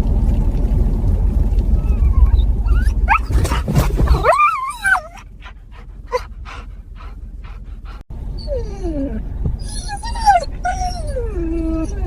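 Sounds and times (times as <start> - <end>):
low rumbling noise: 0.0 - 12.0
wolf whimpering: 1.8 - 12.0.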